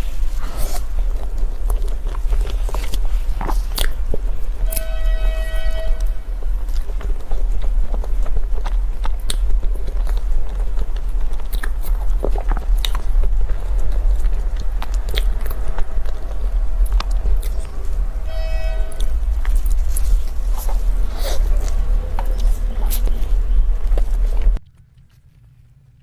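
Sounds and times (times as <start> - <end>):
person chewing food: 0.0 - 26.0
steady low hum: 0.0 - 26.0.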